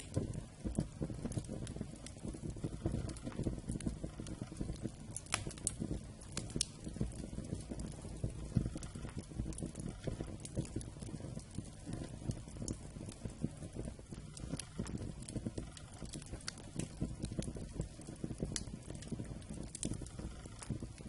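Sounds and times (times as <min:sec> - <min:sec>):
sharp pops of fire: 0:00.0 - 0:21.0
wood fire crackling: 0:00.0 - 0:21.0.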